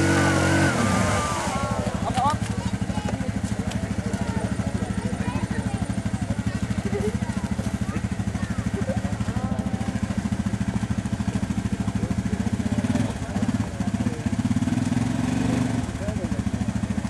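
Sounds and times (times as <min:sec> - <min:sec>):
quad bike engine straining: 0:00.0 - 0:17.0
wheels spinning in mud: 0:00.0 - 0:17.0.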